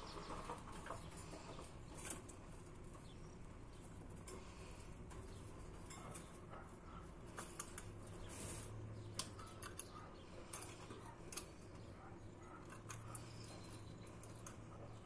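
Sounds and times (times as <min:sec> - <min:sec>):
budgerigars clicking on wire cage: 0:00.0 - 0:15.0.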